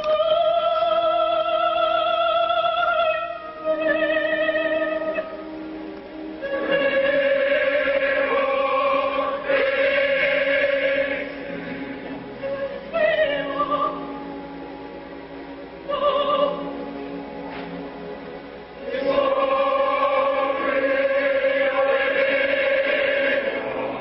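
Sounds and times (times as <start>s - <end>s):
soprano singing opera: 0.0s - 5.4s, 6.4s - 14.3s, 15.8s - 16.8s, 18.8s - 24.0s
orchestra and chorus: 0.0s - 5.6s, 6.2s - 24.0s.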